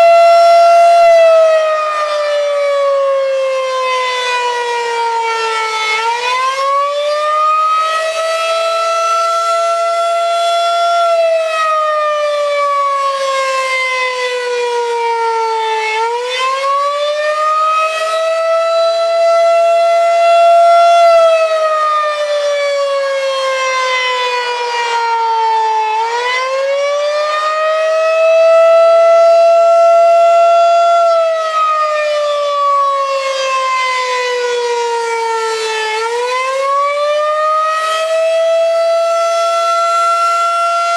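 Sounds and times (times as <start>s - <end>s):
warning siren rising and falling: 0.0s - 40.9s.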